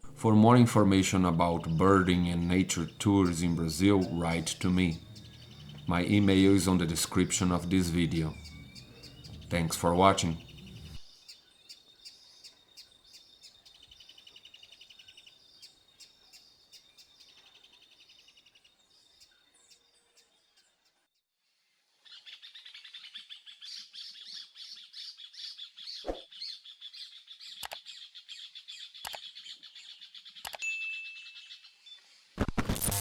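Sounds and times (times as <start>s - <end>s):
birds chirping and trilling: 0.2s - 21.0s, 22.1s - 30.6s.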